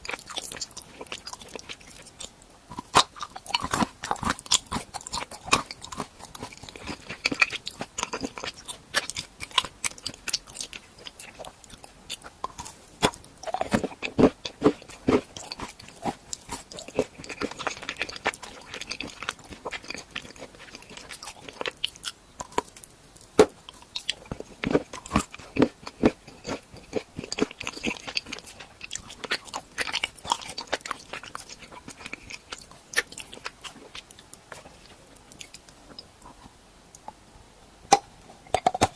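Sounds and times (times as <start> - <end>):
crunching and chewing: 0.0 - 37.1, 37.9 - 38.9.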